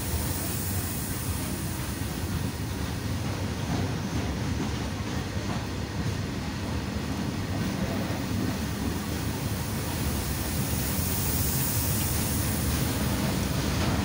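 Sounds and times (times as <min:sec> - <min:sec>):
freight train rumbling past: 0:00.0 - 0:14.0
train hiss: 0:00.0 - 0:14.0.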